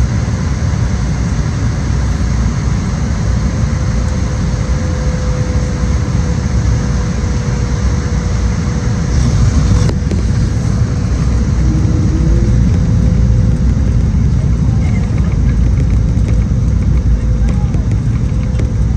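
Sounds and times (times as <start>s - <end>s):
vehicle rumble: 0.0s - 18.9s
faint hum: 1.0s - 18.9s.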